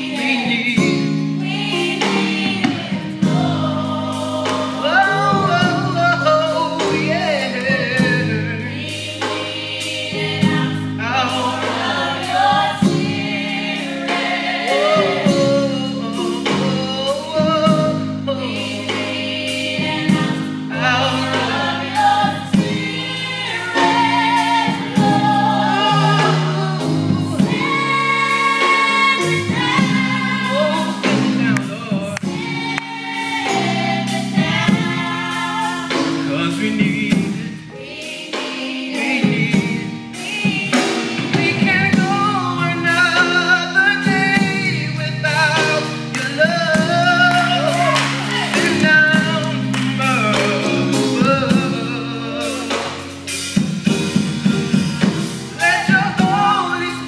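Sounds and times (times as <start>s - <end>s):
women's vocal group singing gospel: 0.0s - 42.8s, 45.9s - 53.2s.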